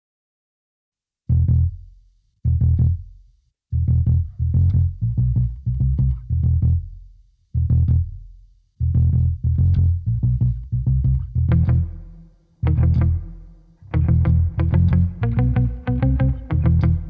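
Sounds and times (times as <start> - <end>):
electric bass guitar plucked notes: 1.3 - 1.8, 2.5 - 3.1, 3.7 - 7.0, 7.6 - 17.0.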